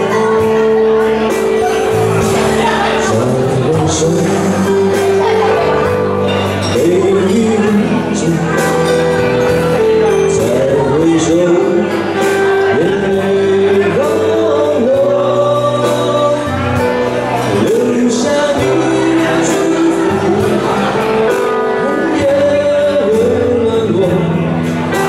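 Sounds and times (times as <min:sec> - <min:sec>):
person singing long notes: 0:00.0 - 0:25.0
pop ballad on keyboard and guitar: 0:00.0 - 0:25.0
steady bass line: 0:00.0 - 0:25.0.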